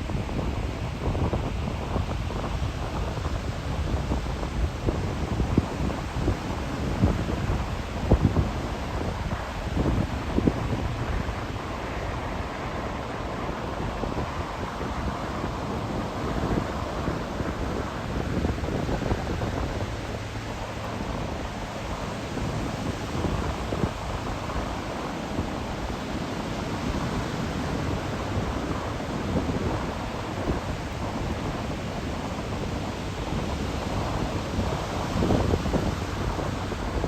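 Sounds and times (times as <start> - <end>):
breaking surf: 0.0 - 37.0
wind buffeting microphone: 0.0 - 37.0.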